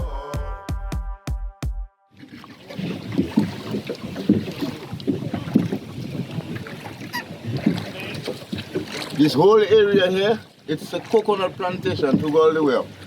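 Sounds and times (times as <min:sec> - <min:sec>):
water and oar noises: 0:02.1 - 0:13.0.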